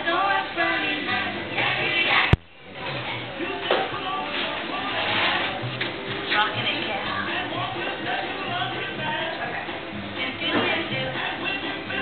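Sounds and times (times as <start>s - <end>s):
jukebox music with singing: 0.0s - 12.0s.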